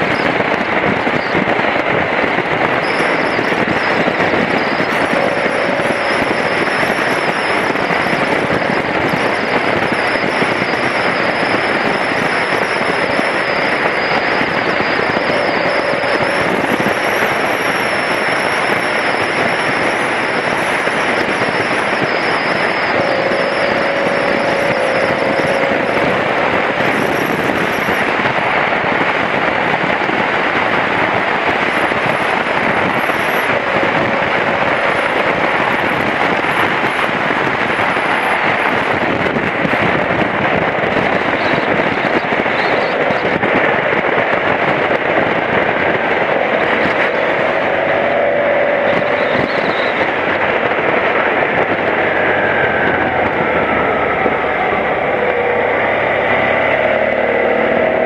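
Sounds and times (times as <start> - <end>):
road noise: 0.0 - 58.0
wind buffeting microphone: 0.0 - 58.0
motorcycle engine: 2.6 - 41.6, 46.0 - 58.0.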